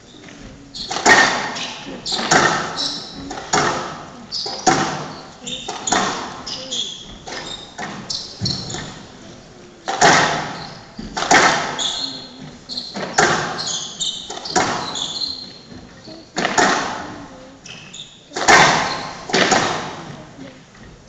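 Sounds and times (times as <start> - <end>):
shoes squeaking on court floor: 0.0 - 21.0
squash ball hitting racket and wall: 0.8 - 15.8, 16.4 - 20.2.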